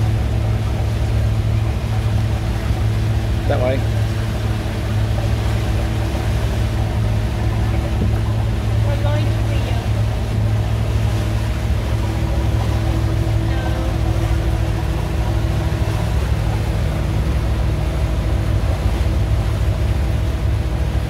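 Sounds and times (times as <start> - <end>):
motorboat engine humming: 0.0 - 21.0
water rushing in wake: 0.0 - 21.0.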